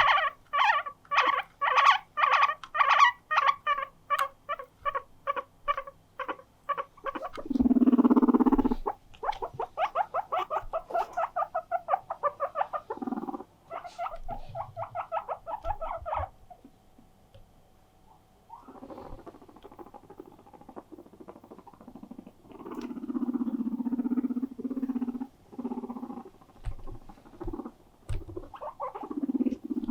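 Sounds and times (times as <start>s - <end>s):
guinea pig squealing: 0.0s - 16.5s, 18.5s - 29.9s.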